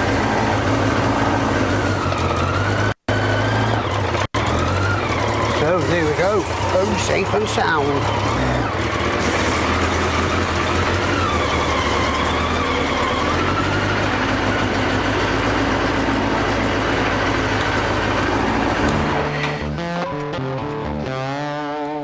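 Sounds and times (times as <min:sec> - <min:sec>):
motorcycle engine idling: 0:00.0 - 0:02.7, 0:03.8 - 0:19.0.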